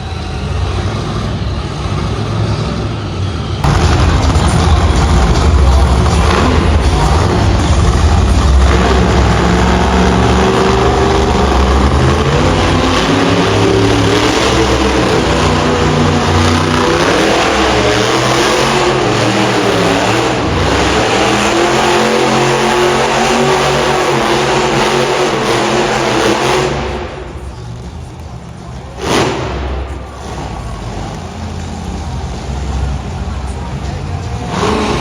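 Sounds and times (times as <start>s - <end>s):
truck engine revving: 0.0s - 35.0s.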